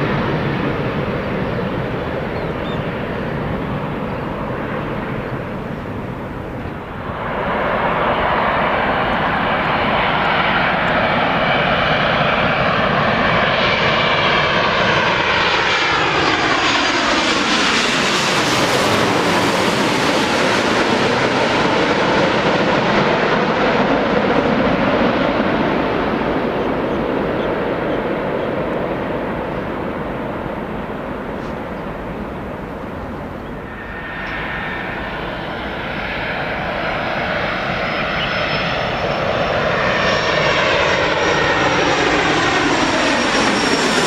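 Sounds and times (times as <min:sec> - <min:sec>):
jet airliner passing overhead: 0:00.0 - 0:44.0.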